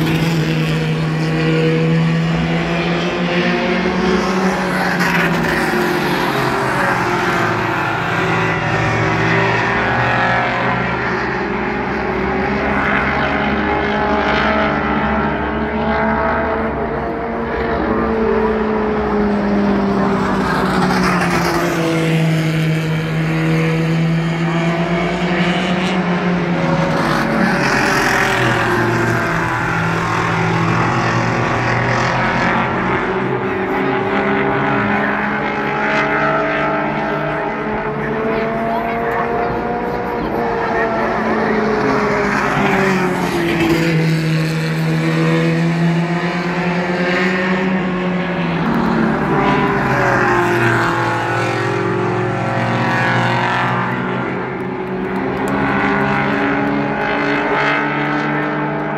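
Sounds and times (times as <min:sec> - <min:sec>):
race car engines: 0:00.0 - 0:58.9.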